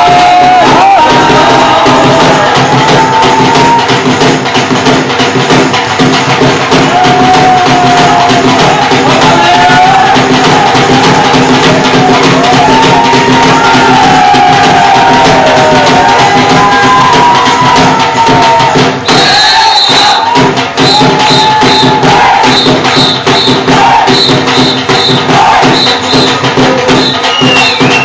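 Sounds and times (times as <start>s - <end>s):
bhangra music with percussion: 0.0s - 28.0s.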